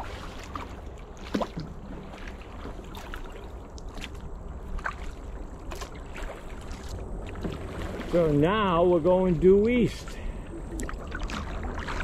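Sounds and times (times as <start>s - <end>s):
paddle blades dipping in water: 0.0s - 12.0s
water splashing and dripping: 0.0s - 12.0s.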